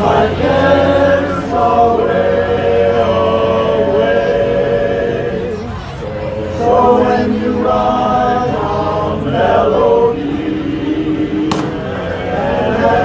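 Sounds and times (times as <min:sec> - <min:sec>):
male chorus singing a cappella: 0:00.0 - 0:13.0.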